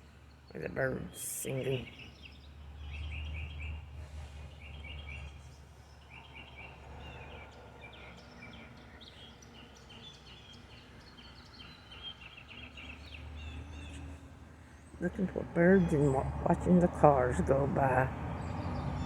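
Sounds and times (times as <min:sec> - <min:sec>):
songbirds chirping trills: 0:00.0 - 0:19.0.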